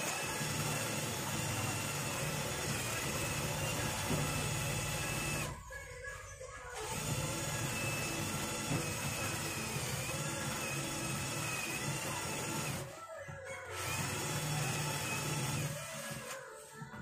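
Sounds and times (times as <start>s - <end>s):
power drill running: 0.0s - 5.6s, 6.7s - 12.9s, 13.7s - 16.4s.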